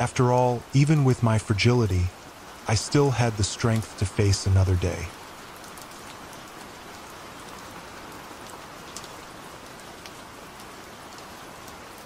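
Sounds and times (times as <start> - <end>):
rain drop ticks: 0.0 - 12.0
steady rain: 0.0 - 12.0.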